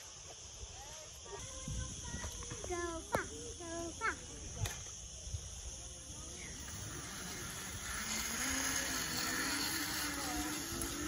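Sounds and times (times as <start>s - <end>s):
hiss: 0.0s - 11.0s
zip line trolley whirring: 0.0s - 11.0s.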